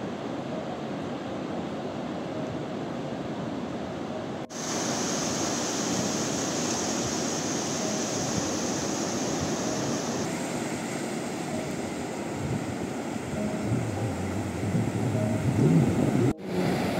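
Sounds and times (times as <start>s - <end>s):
ocean surf breaking: 0.0s - 16.9s.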